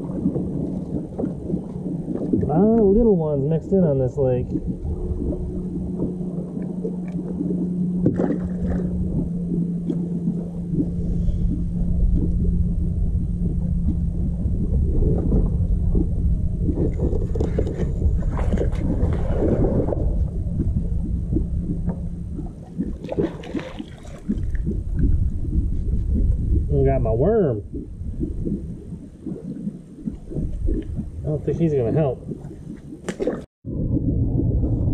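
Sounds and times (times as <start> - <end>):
low rumble: 0.0 - 34.9.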